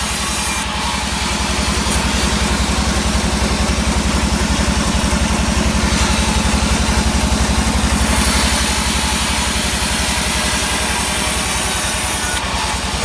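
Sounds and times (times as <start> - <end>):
sawmill engine pulsing: 0.0 - 13.0.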